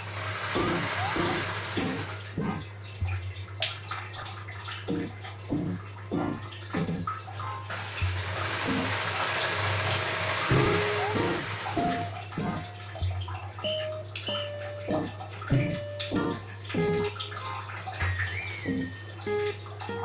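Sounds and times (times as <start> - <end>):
parrot splashing water: 0.0 - 20.0.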